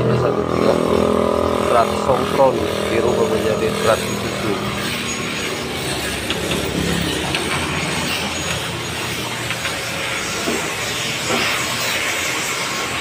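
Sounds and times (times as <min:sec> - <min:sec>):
mechanical running noise: 0:00.0 - 0:13.0.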